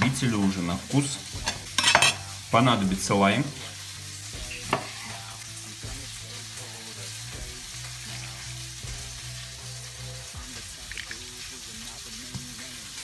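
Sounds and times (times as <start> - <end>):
music with held low notes: 0.0 - 13.0.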